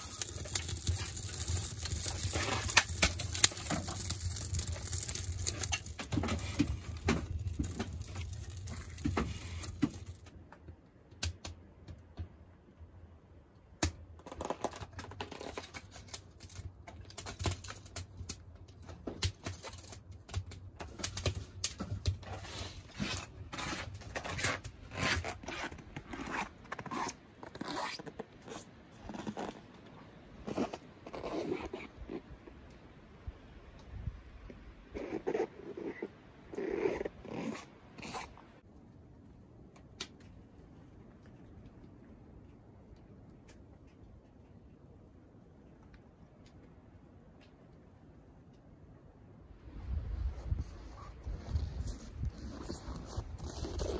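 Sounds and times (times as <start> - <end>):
fire crackling in wood stove: 0.0 - 49.2.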